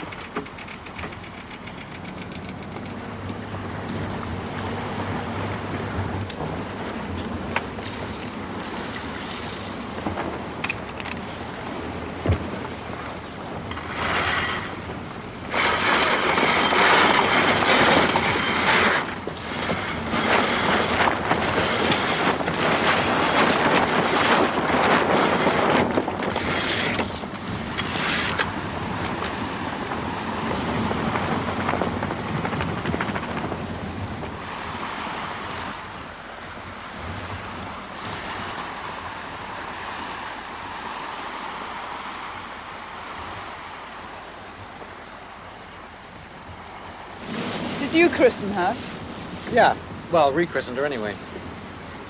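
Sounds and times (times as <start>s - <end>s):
waves washing: 0.0s - 52.0s
wind and water rushing: 0.0s - 52.0s.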